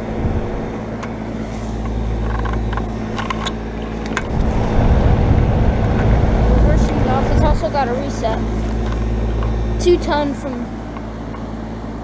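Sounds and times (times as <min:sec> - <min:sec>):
coarse low rumble: 0:00.0 - 0:09.9
fan whoosh: 0:00.0 - 0:11.2
compressor hum: 0:00.0 - 0:12.0.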